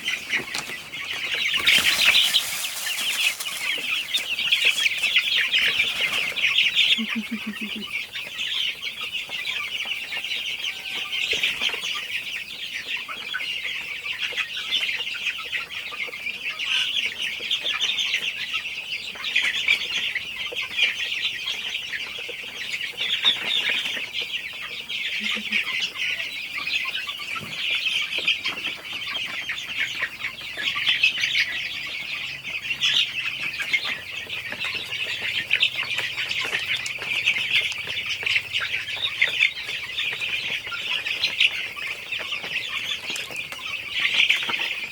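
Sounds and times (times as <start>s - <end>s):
young chickens cheeping and clucking: 0.0s - 44.9s.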